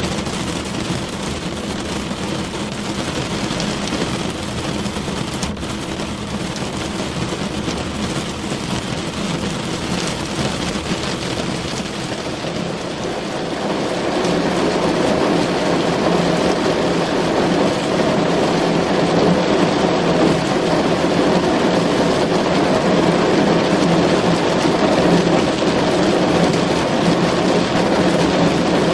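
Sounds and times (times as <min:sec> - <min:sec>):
rain on a car roof: 0:00.0 - 0:28.9.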